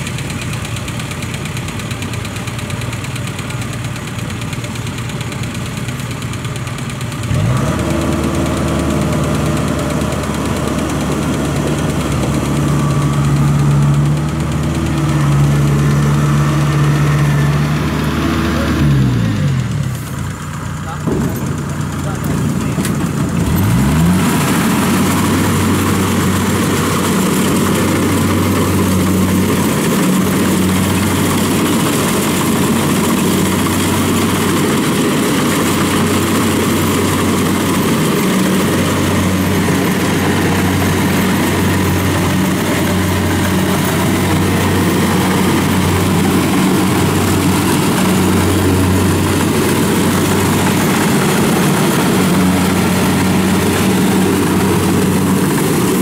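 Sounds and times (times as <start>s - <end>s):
combine harvester diesel engine: 0.0s - 56.0s
rushing machinery noise: 0.0s - 56.0s.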